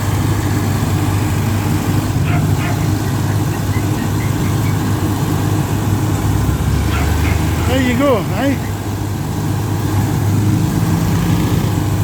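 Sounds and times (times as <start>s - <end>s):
rice milling machine running: 0.0s - 12.0s.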